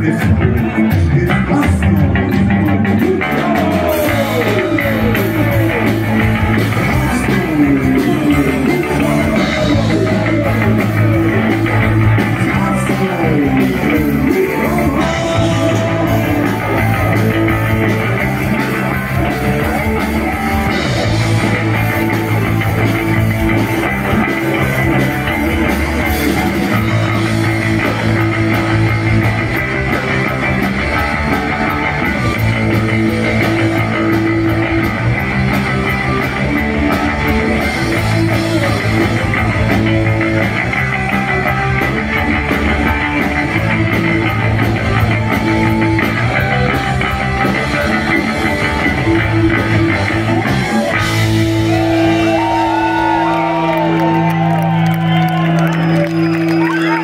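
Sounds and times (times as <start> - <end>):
punk rock band playing live: 0.0 - 57.0.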